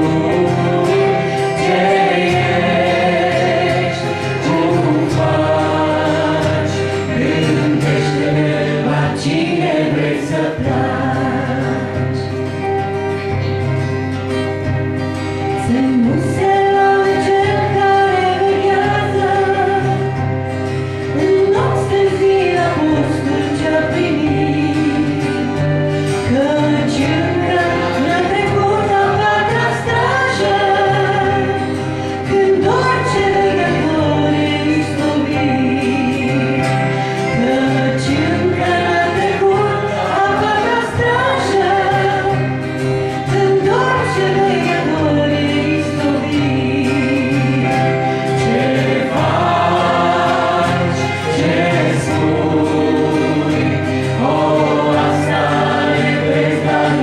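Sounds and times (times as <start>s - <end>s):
woman singing: 0.0s - 12.4s, 15.4s - 57.0s
acoustic guitar: 0.0s - 57.0s
keyboard: 0.0s - 57.0s.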